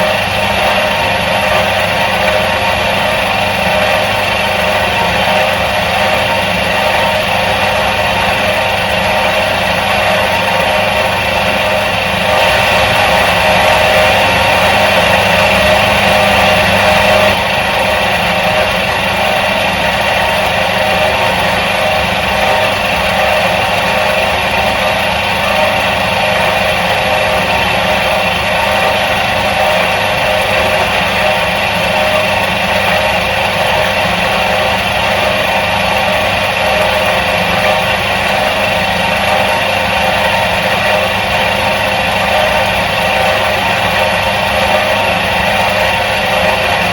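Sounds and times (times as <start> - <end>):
washing machine motor humming: 0.0 - 46.9.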